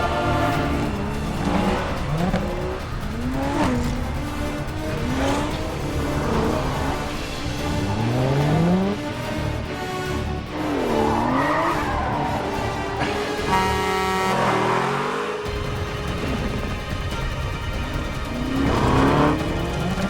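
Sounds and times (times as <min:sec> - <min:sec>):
car engines revving hard: 0:00.0 - 0:20.0
orchestral score music: 0:00.0 - 0:20.0.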